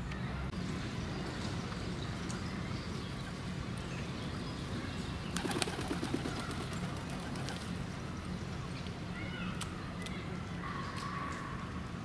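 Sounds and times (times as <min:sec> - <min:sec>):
birds calling faintly: 0:00.0 - 0:11.9.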